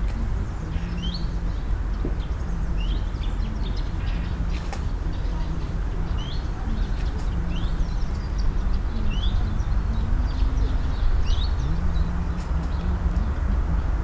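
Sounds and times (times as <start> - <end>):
faint wavering hum: 0.0 - 14.0
low outdoor rumble: 0.0 - 14.0.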